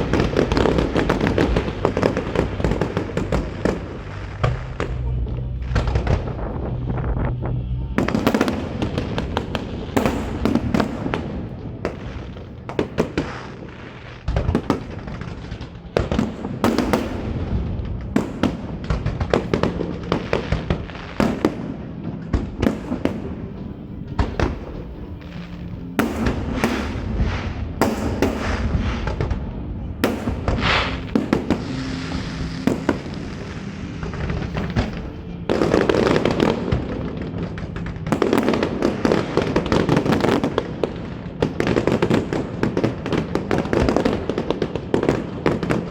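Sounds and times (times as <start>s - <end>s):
fireworks bursting: 0.0s - 45.9s
fireworks crackling: 0.0s - 45.9s.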